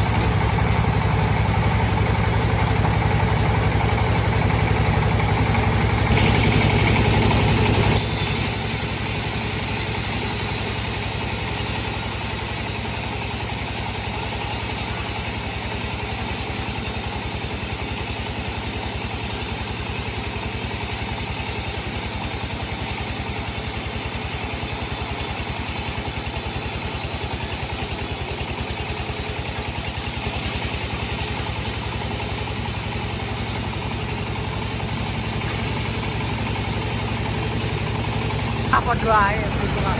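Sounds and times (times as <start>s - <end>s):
bandsaw machine droning: 0.0s - 39.9s.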